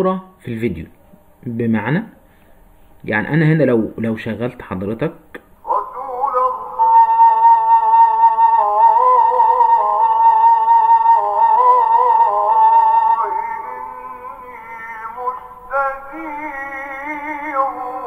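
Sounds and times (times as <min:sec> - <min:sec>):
man chanting: 0:03.0 - 0:18.0.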